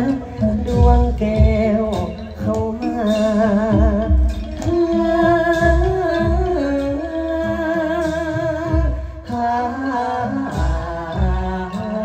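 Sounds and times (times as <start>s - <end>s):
band accompaniment with low beat: 0.0s - 12.0s
person singing with wide vibrato: 0.0s - 12.0s.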